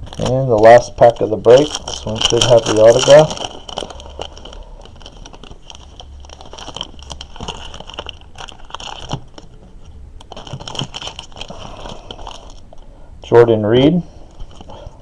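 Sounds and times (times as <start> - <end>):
card pack wrapper crinkling: 0.0 - 12.8.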